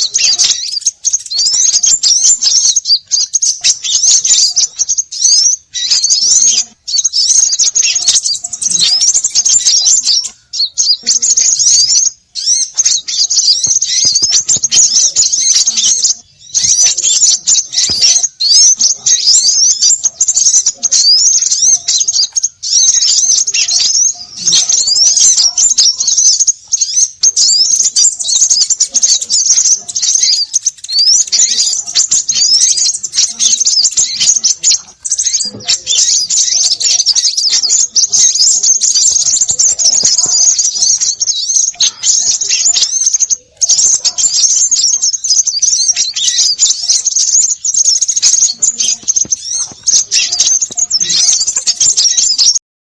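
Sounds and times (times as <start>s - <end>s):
small birds chirping chorus: 0.0s - 52.6s.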